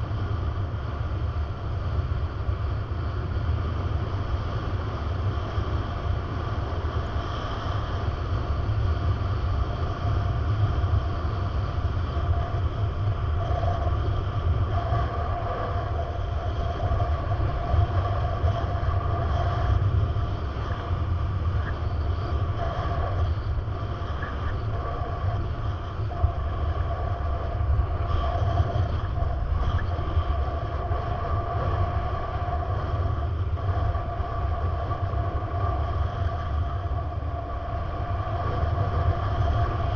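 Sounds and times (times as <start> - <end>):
vehicle rumbling: 0.0 - 39.9
steady whining tones: 4.9 - 39.9.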